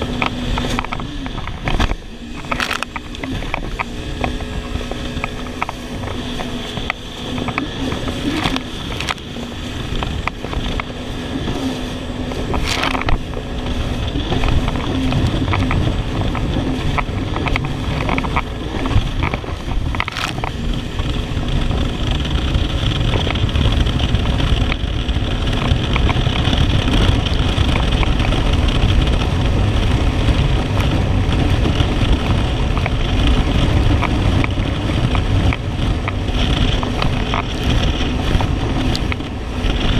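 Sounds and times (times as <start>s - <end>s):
jet ski engine: 0.0s - 39.9s
water rushing: 0.0s - 39.9s
wind on microphone: 0.0s - 39.9s.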